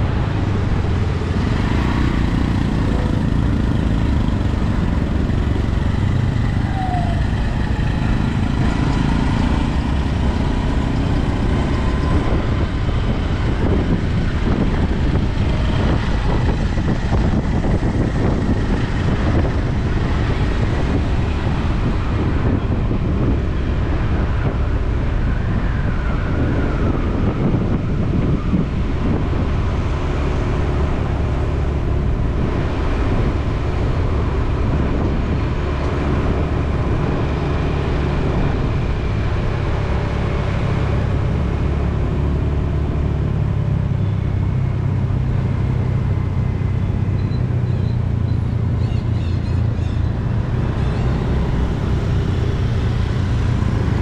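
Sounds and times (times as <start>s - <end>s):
city street traffic rumble: 0.0s - 54.0s.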